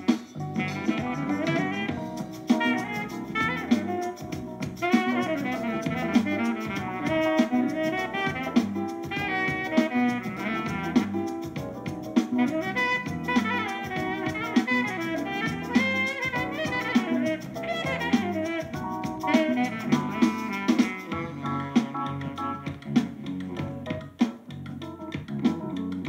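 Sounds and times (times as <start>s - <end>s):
saxophone melody: 0.0s - 24.2s
drum kit beat: 0.0s - 26.0s.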